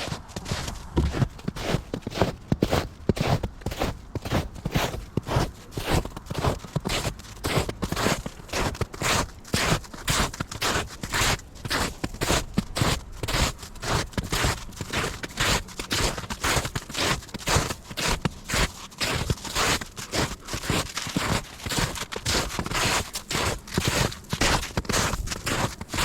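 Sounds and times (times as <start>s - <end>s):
footsteps crunching on ground: 0.0s - 26.0s.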